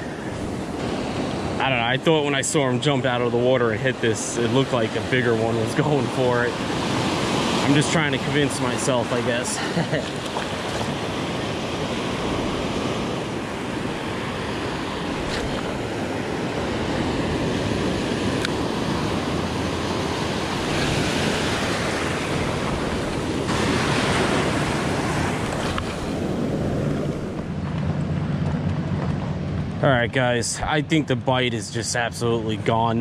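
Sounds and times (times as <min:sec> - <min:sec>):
ocean surf breaking: 0:00.0 - 0:31.2.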